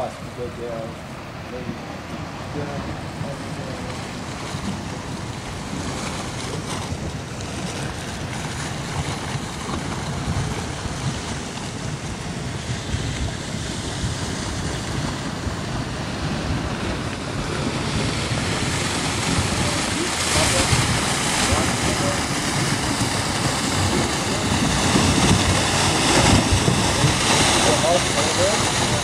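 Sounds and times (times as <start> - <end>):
flood water rushing: 0.0 - 29.0
wind buffeting microphone: 0.0 - 29.0.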